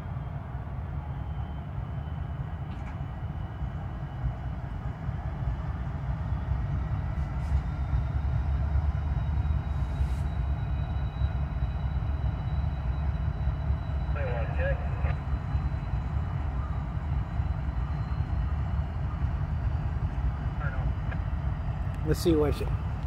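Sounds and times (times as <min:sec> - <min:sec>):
steel wheels rumbling on rail: 0:00.0 - 0:23.0.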